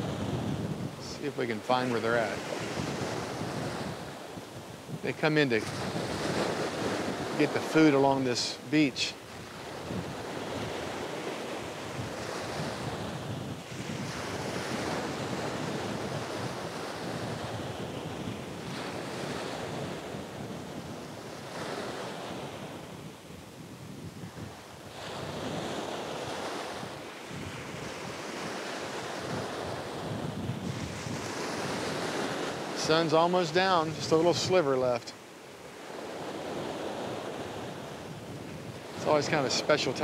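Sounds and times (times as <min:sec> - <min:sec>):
wind buffeting the microphone: 0:00.0 - 0:07.9, 0:08.6 - 0:34.6, 0:35.5 - 0:40.0
surf breaking on a beach: 0:00.0 - 0:40.0.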